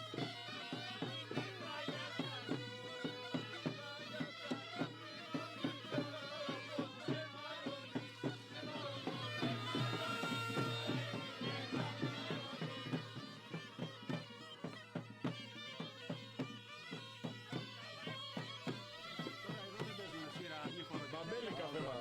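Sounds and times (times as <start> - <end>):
bagpipe folk tune with drone: 0.0 - 22.0
rhythmic percussive strikes: 0.0 - 22.0.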